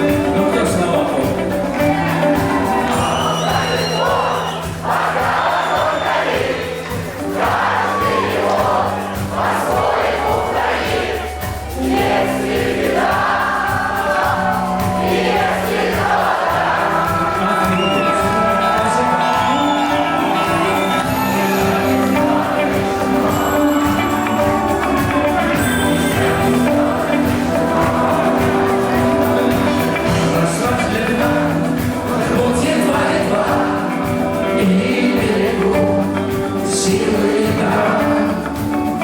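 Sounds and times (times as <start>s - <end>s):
person singing: 0.0s - 39.0s
rock band playing live: 0.0s - 39.0s.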